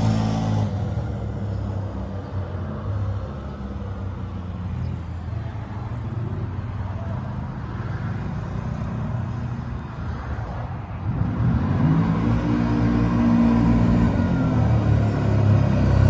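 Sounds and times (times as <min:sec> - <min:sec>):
distant quad bike engine: 0:00.0 - 0:16.0.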